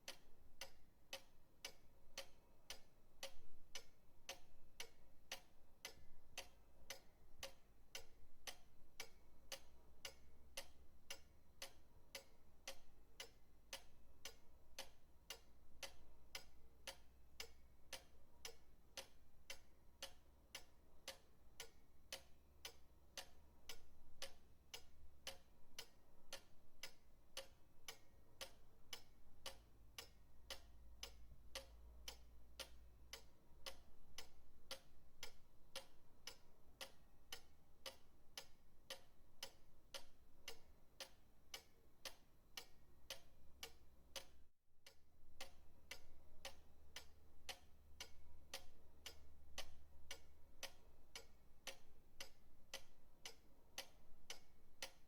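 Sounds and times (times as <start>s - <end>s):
pendulum clock ticking: 0.0s - 55.0s.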